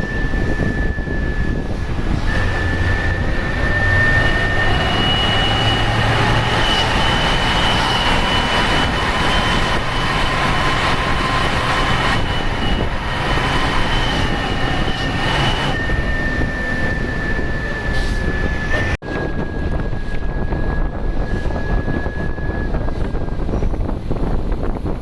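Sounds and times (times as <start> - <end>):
turbocharger whistle: 0.0 - 24.8
diesel bus engine pulling uphill: 0.0 - 25.0
road noise: 0.0 - 25.0.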